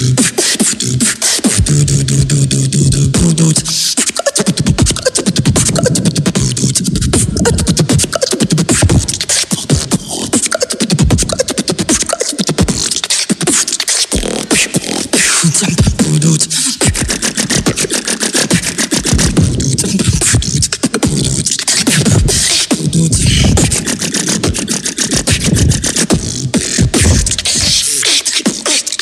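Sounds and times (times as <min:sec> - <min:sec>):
person beatboxing: 0:00.0 - 0:29.0.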